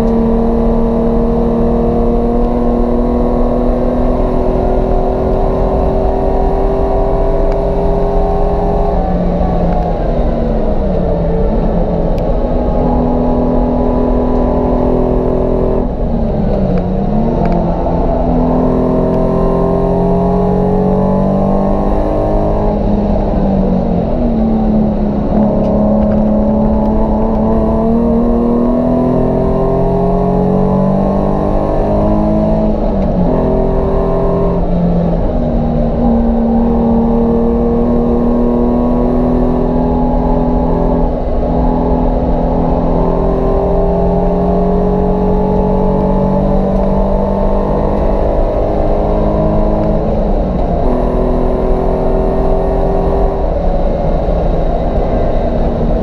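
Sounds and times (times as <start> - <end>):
car engine running under load: 0.0 - 56.0
road and tyre noise: 0.0 - 56.0.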